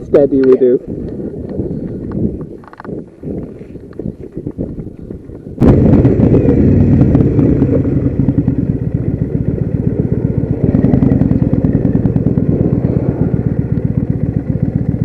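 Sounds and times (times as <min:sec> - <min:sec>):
motorcycle engine running: 0:00.9 - 0:15.0.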